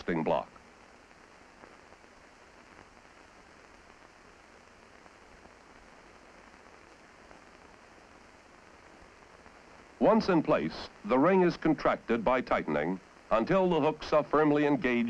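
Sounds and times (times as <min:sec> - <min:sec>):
faint recording hiss: 0:00.0 - 0:15.0.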